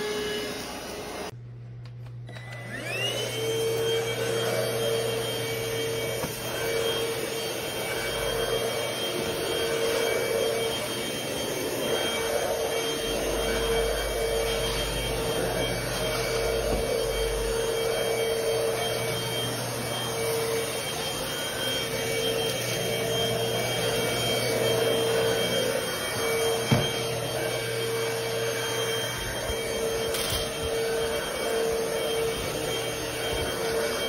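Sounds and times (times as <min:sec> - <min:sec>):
stick vacuum cleaner running: 0:00.0 - 0:34.0.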